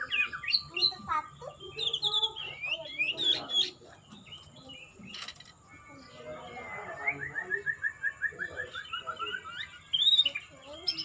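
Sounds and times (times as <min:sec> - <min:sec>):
soft bird chirps: 0:00.0 - 0:11.0
songbird singing repeated notes: 0:00.0 - 0:11.0.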